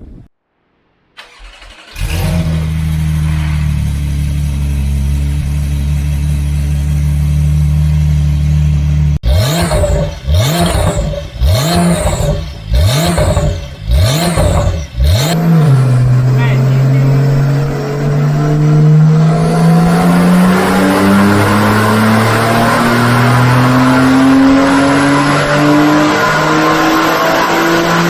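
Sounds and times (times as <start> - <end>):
sports car engine revving: 1.4 - 28.0.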